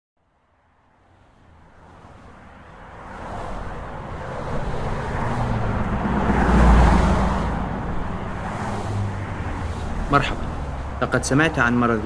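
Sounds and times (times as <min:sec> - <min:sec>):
car driving past: 0:01.0 - 0:11.2.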